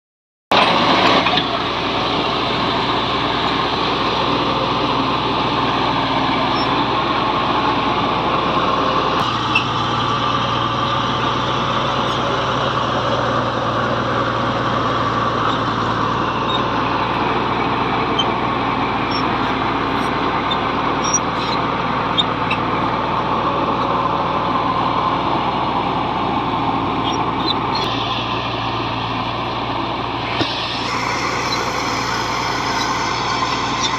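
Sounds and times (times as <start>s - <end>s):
bulldozer diesel engine running: 0.5s - 33.9s.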